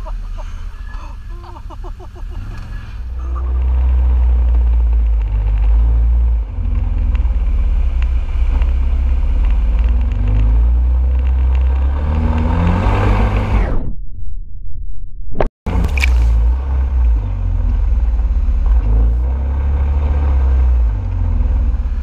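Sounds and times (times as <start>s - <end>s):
quad bike engine rumble: 0.0s - 13.6s, 15.7s - 22.0s
gravel ticking under tyres: 0.1s - 13.4s, 15.7s - 22.0s.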